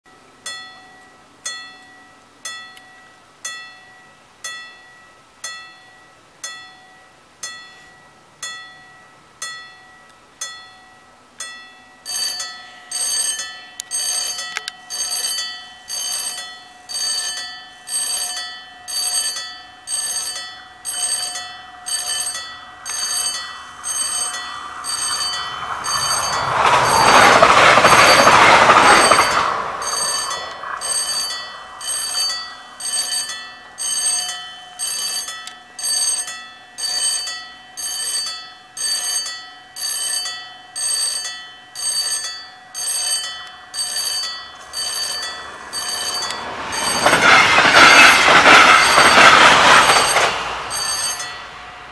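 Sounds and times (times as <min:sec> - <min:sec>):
level-crossing warning bells: 0:00.1 - 0:51.9
train passing: 0:02.4 - 0:51.9.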